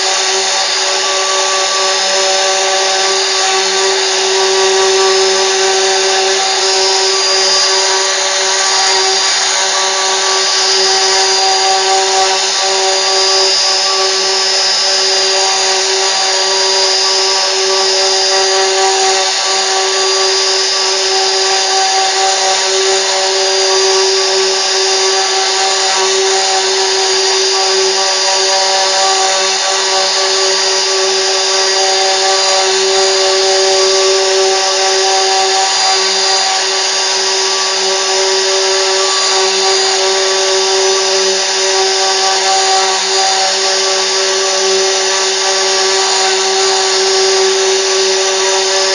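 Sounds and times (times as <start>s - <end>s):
router spindle whine: 0.0s - 48.9s.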